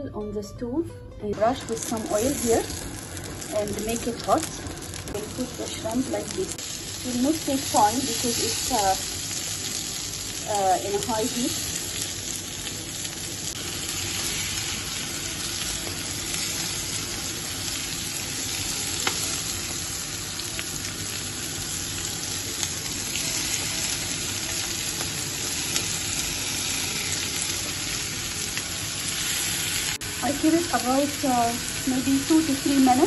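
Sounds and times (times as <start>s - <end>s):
shrimp sizzling on grill pan: 1.6s - 33.0s.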